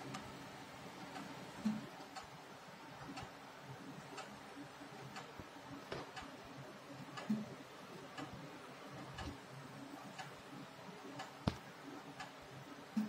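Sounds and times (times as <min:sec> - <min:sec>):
faint regular ticking: 0:00.0 - 0:02.4, 0:03.0 - 0:03.4, 0:04.0 - 0:13.0.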